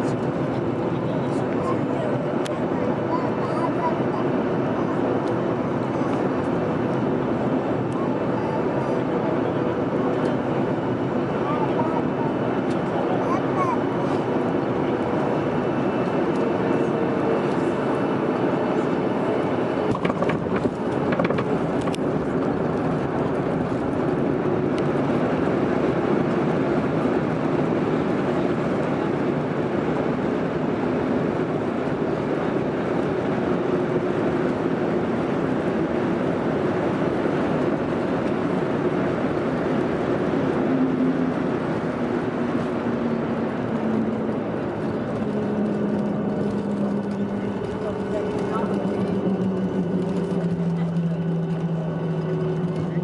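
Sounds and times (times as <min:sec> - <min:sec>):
jet engine and airflow roar: 0:00.0 - 0:53.0.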